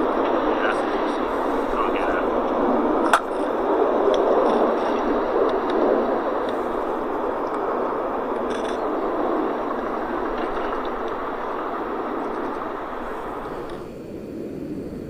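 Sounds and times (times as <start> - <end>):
jet aircraft overhead: 0.0 - 15.0.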